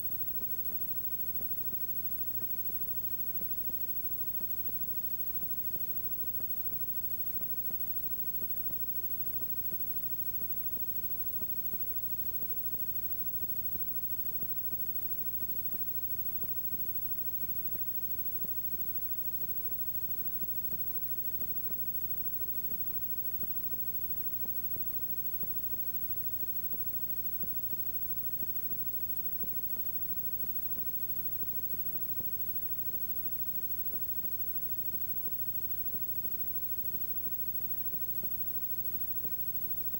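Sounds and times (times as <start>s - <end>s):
tape hiss: 0.0s - 39.9s
faint crackle: 0.1s - 39.9s.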